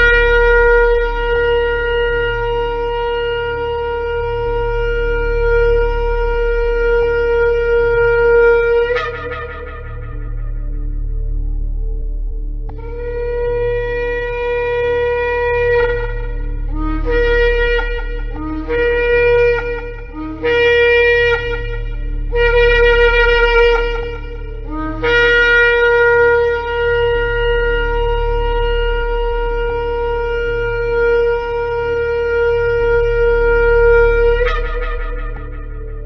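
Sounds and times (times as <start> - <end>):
shofar blasts: 0.0 - 12.1, 12.7 - 36.0
low hum: 0.0 - 36.0.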